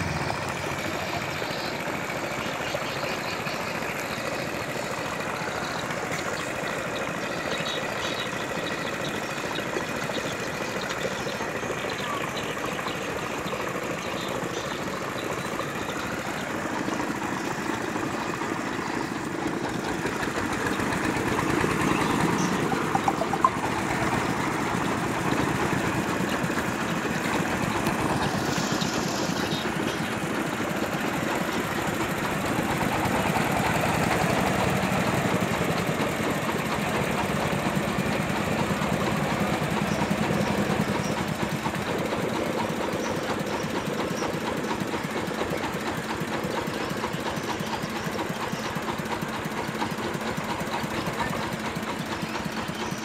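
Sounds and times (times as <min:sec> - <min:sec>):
small boat engine puttering: 0:00.0 - 0:53.0.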